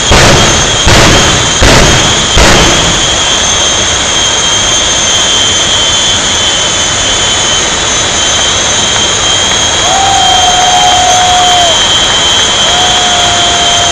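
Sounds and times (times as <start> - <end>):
high steady engine whines: 0.0 - 13.9
jet engines roaring: 0.0 - 13.9.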